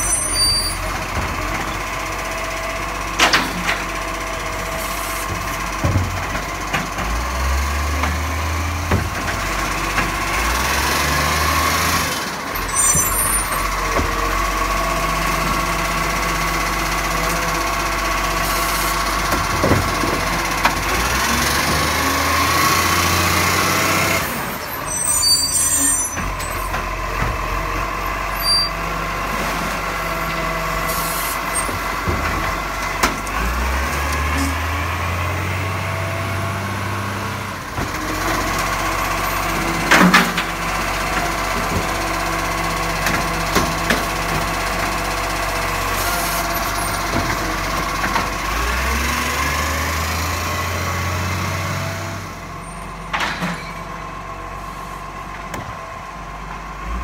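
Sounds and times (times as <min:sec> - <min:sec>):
diesel truck engine rumble: 0:00.0 - 0:57.0.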